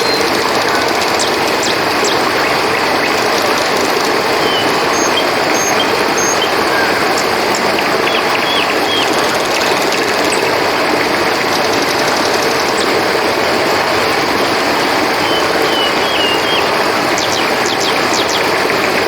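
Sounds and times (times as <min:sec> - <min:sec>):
rapid trill of ticks: 0:00.0 - 0:19.0
river water rushing: 0:00.0 - 0:19.0.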